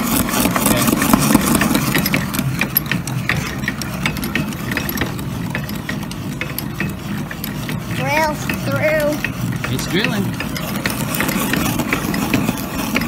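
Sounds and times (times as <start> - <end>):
hand-cranked drill grinding wood: 0.0 - 13.0.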